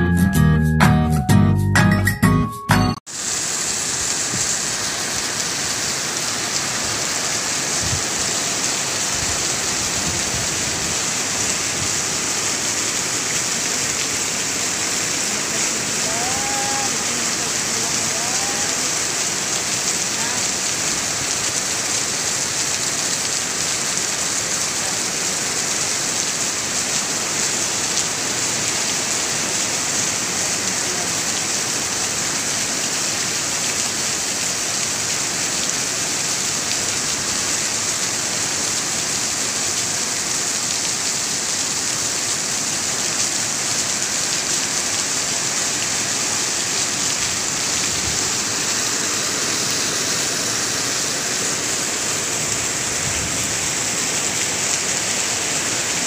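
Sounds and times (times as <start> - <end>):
steady rain falling: 3.1 - 56.0.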